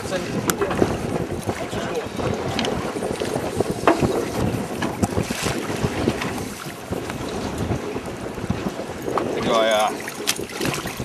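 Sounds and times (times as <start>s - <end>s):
water slapping against hull: 0.0s - 11.0s
wind buffeting microphone: 0.0s - 11.0s.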